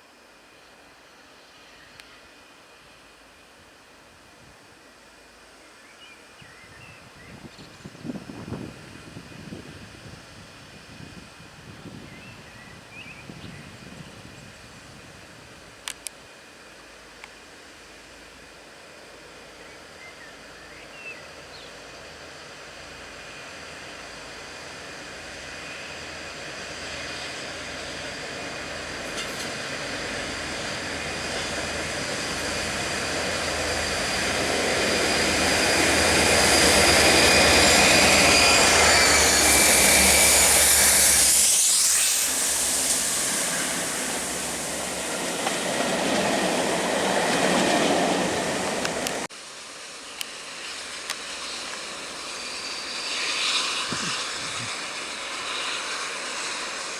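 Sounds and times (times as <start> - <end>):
diesel locomotives passing: 6.4 - 56.9.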